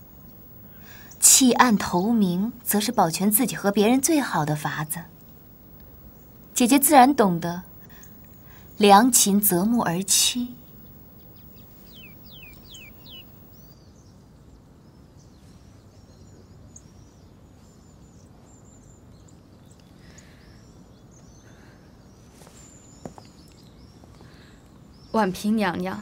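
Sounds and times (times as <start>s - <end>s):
small birds chirping: 0.0s - 14.2s, 14.8s - 26.0s
low background hiss: 0.0s - 26.0s.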